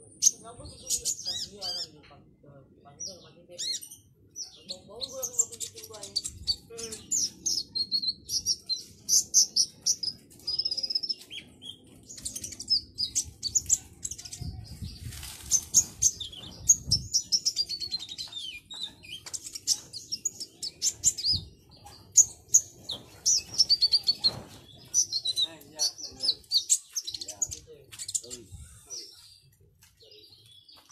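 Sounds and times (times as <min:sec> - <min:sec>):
sunbird singing: 0:00.0 - 0:30.9.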